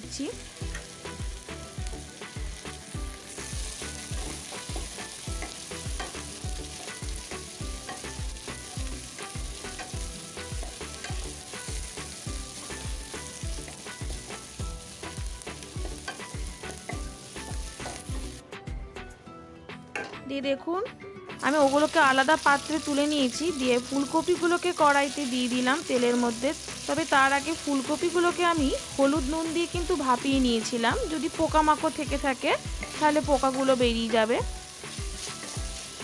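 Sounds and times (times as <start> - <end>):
vegetables sizzling in hot oil: 0.0 - 18.4, 21.4 - 36.0.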